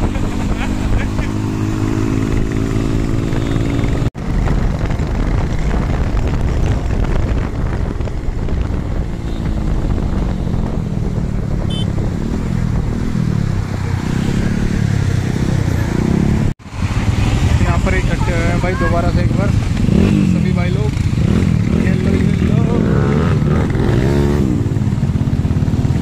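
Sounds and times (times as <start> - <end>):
motorcycle passing close: 0.0 - 6.9, 7.8 - 26.0
motorcycle engines running: 0.0 - 26.0.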